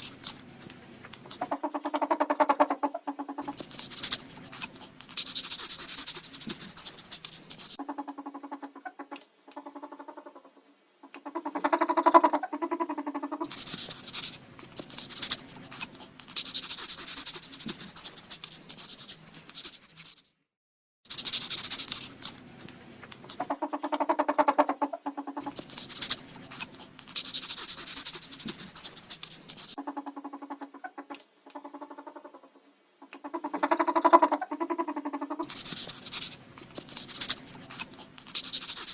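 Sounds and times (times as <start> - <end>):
ferret clucking chatter: 0.0 - 20.1, 21.1 - 38.9.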